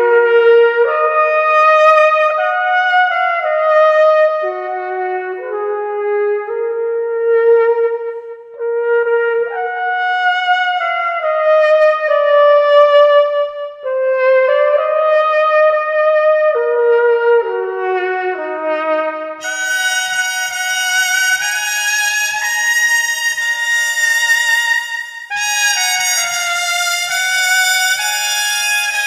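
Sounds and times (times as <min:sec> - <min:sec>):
slow brass melody: 0:00.0 - 0:29.0.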